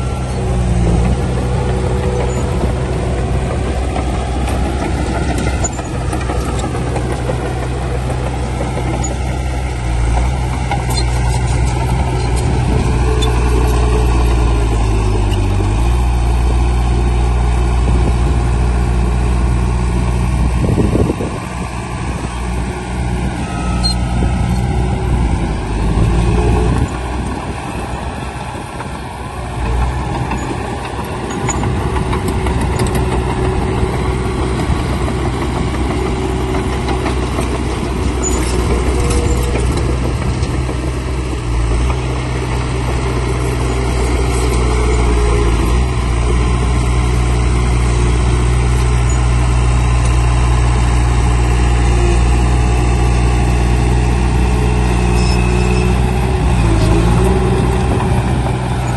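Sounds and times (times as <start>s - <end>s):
heavy diesel engine droning: 0.0s - 58.9s.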